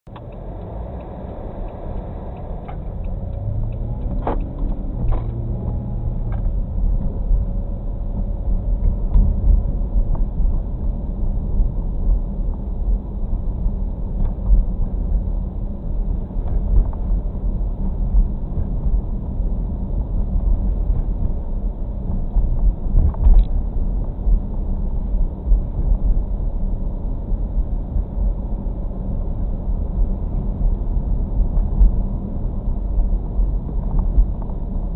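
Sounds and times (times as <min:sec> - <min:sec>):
engine and tyres on wet road: 0:00.1 - 0:34.9.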